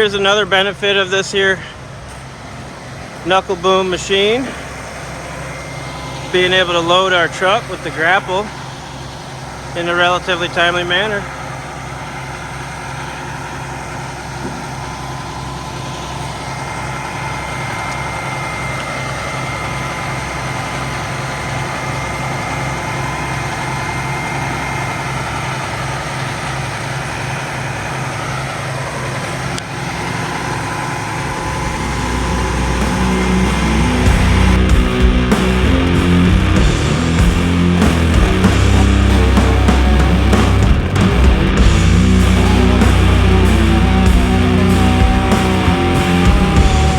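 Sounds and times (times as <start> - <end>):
high whine of crane: 0.0 - 46.9
truck engine running: 0.0 - 46.9.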